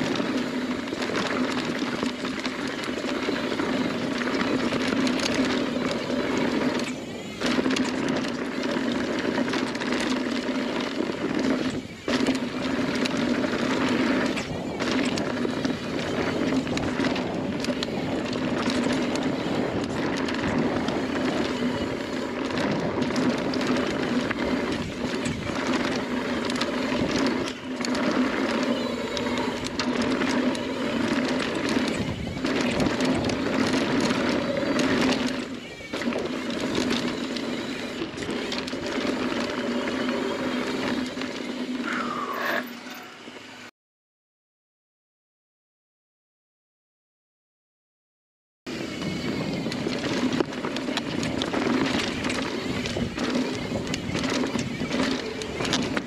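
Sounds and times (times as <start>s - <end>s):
bike rattling over bumps: 0.0s - 42.1s, 48.7s - 56.0s
bike tyres rolling over dirt: 0.0s - 43.6s, 48.7s - 56.0s.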